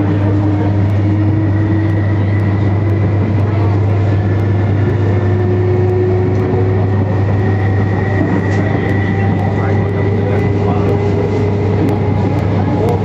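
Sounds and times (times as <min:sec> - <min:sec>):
steady whining tones: 0:00.0 - 0:13.0
train interior rumble: 0:00.0 - 0:13.0.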